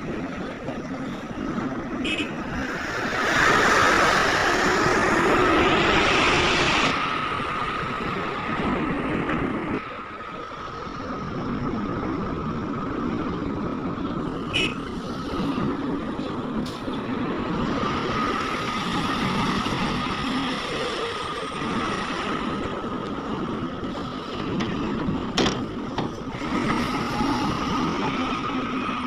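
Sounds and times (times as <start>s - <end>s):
diesel engines under load: 0.0s - 29.0s.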